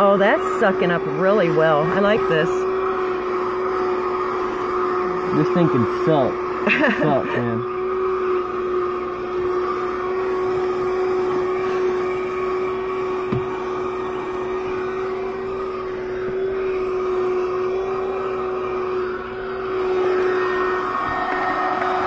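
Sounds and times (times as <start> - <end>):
handheld vacuum motor whine: 0.0 - 22.0.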